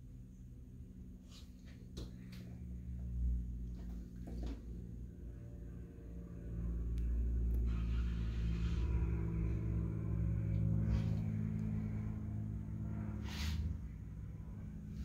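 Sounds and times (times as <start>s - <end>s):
low mechanical hum and rumble: 0.0s - 15.0s.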